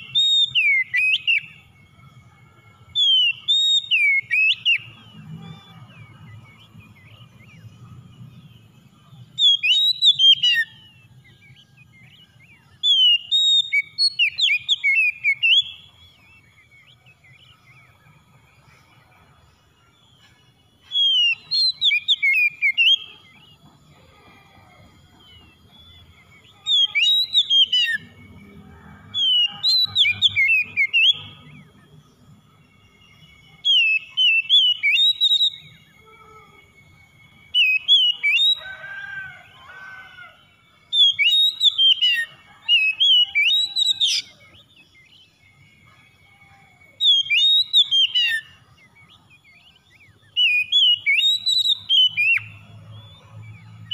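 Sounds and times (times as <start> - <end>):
bird song whistled phrases: 0.0 - 23.6, 24.2 - 40.0, 40.8 - 53.9.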